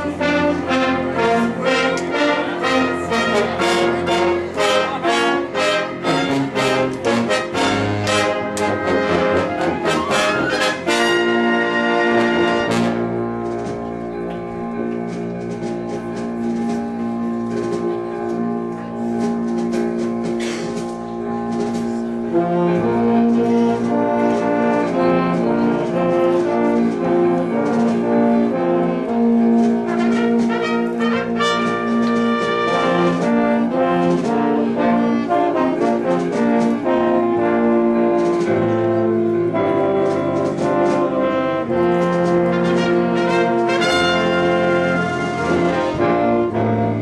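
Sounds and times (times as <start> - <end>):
brass chords and melody: 0.0 - 47.0
orchestra playing a hymn: 0.0 - 47.0.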